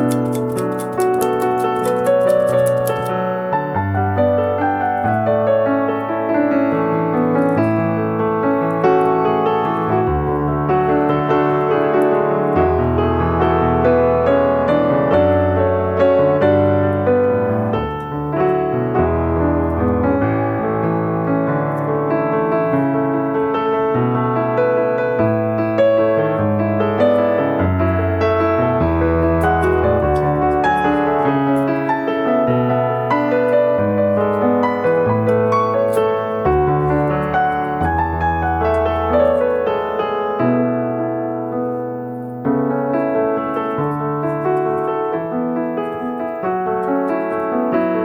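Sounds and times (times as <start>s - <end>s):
piano music: 0.0s - 48.0s.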